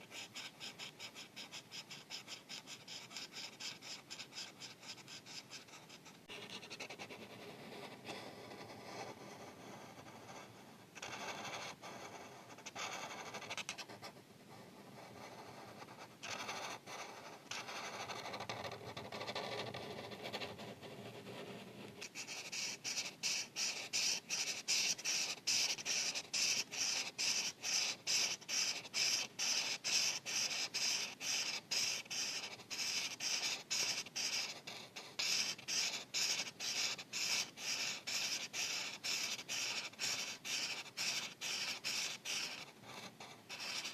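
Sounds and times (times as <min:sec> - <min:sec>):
marker scratching on paper: 0:00.0 - 0:43.9.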